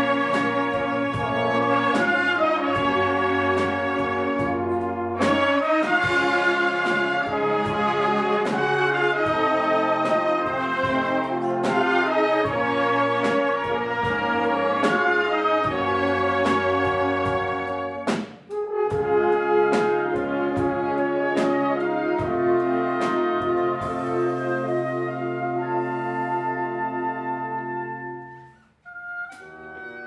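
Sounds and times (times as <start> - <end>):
brass chords: 0.0 - 30.0.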